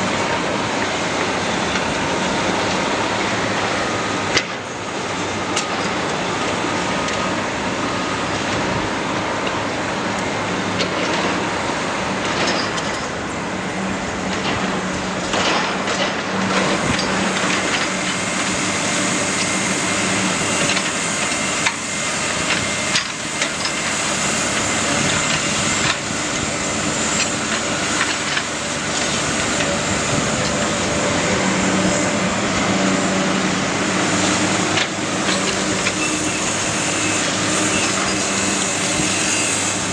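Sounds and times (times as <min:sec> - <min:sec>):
demolition machinery engine drone: 0:00.0 - 0:39.9.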